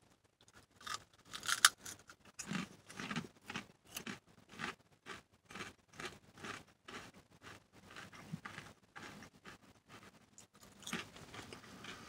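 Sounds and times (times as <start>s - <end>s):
potato chip crunching: 0.8s - 9.6s, 10.4s - 12.0s.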